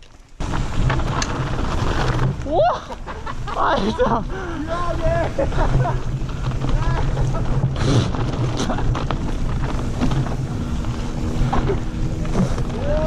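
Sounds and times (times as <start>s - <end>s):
bike rattling over bumps: 0.0s - 13.0s
tyres rolling over dirt and stones: 0.0s - 13.0s.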